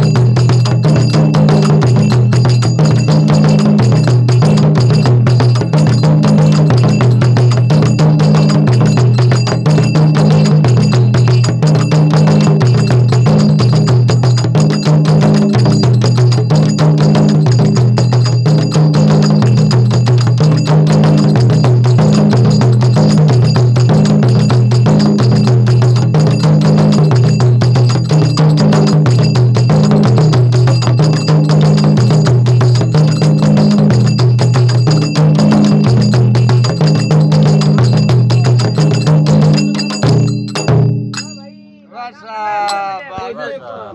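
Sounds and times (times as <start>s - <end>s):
drums beaten in fast rhythm: 0.0s - 43.1s.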